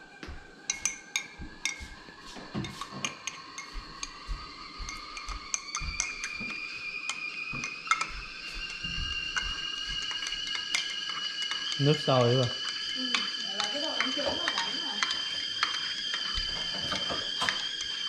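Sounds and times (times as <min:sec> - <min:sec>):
high whistling tone: 0:00.0 - 0:18.0
metal spoon clinking against glass: 0:00.7 - 0:01.9, 0:02.6 - 0:17.9.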